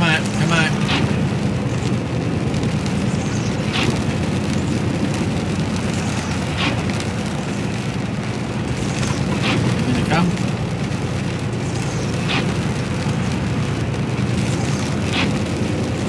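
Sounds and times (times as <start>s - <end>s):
lorry engine and tyres droning: 0.0s - 16.0s
rain and spray hiss: 0.0s - 16.0s
windscreen wiper sweeping: 0.0s - 16.0s.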